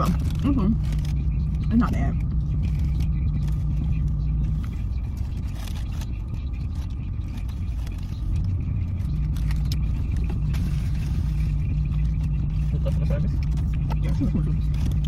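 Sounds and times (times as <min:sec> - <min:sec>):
car engine rumbling: 0:00.0 - 0:15.0
hum: 0:00.0 - 0:15.0.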